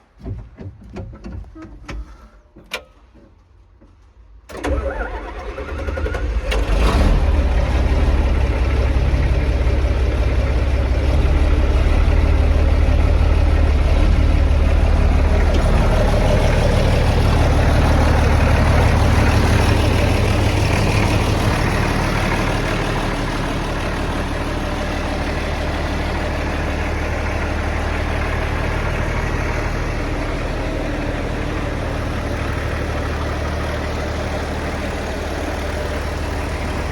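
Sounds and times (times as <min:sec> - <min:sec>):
tractor engine cranking: 0:04.5 - 0:09.6, 0:10.2 - 0:36.9
diesel tractor engine running: 0:04.5 - 0:36.9.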